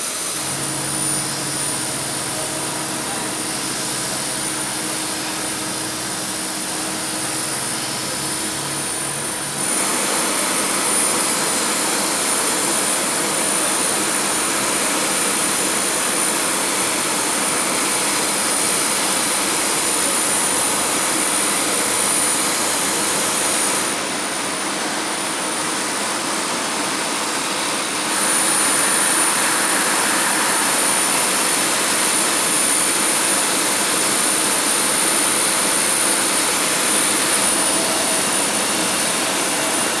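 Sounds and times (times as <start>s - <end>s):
jet auxiliary power unit running: 0.0s - 40.0s.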